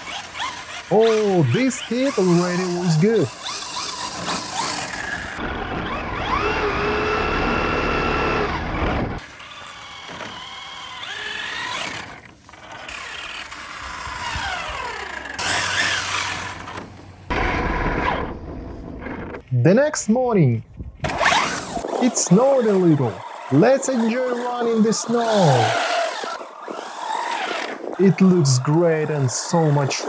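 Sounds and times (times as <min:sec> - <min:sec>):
electric motor whining: 0:00.0 - 0:19.4, 0:21.0 - 0:30.0
tyre and drivetrain noise: 0:00.0 - 0:19.5, 0:20.8 - 0:30.0.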